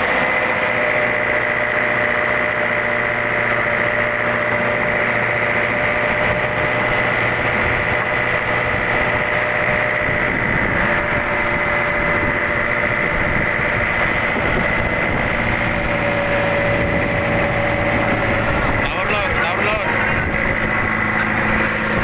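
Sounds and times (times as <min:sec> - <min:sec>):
boat engine droning with whine: 0:00.0 - 0:22.0.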